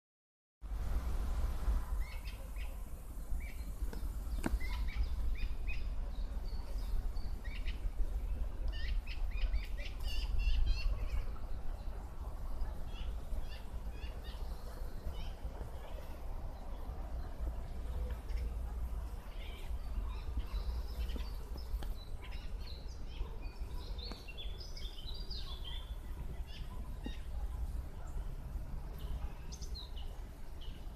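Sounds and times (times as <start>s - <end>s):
small songbirds chirping: 1.8s - 30.9s.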